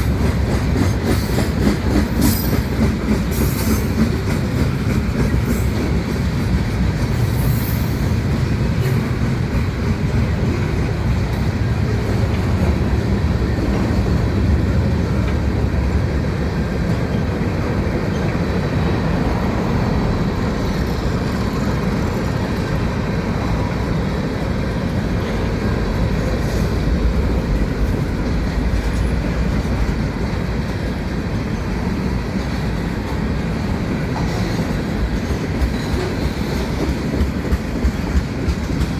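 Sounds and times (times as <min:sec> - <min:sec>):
freight train wheels on track: 0:00.0 - 0:38.9.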